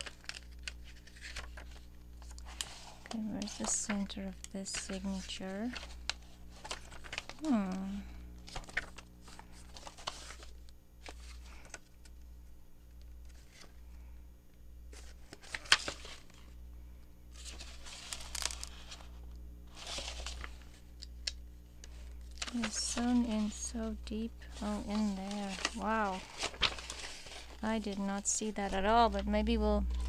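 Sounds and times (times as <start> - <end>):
paper pages rustling: 0.0 - 12.2, 13.0 - 13.8, 14.9 - 16.5, 17.3 - 29.2.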